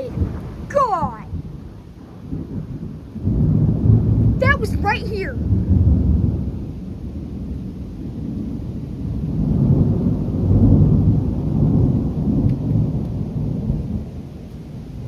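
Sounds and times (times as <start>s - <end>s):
rain falling: 0.0s - 15.0s
rolling thunder: 0.0s - 15.0s.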